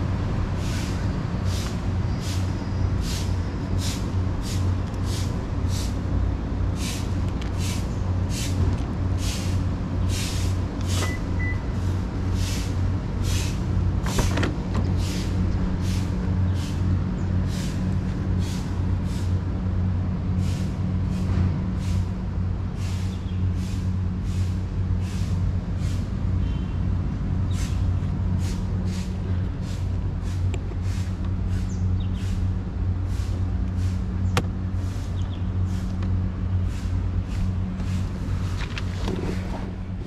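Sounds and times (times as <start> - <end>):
engine low hum: 0.0 - 40.0.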